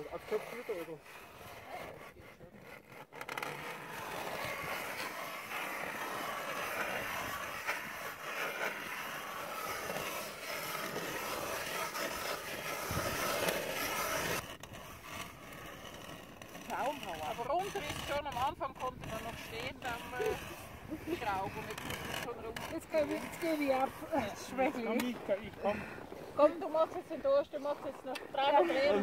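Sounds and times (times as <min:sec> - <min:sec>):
ice auger grinding through ice: 0:00.0 - 0:29.0.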